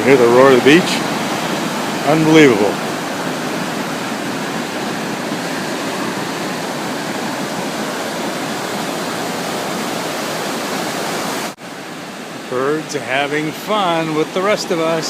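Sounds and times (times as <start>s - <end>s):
ocean surf roar: 0.0s - 15.0s.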